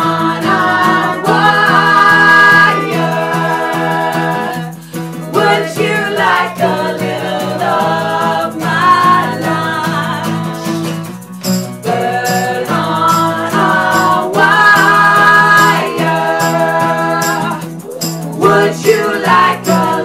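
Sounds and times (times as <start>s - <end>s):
men singing along: 0.0s - 11.1s, 11.8s - 20.0s
woman singing lead: 0.0s - 11.1s, 11.9s - 20.0s
strummed acoustic guitar: 0.0s - 20.0s.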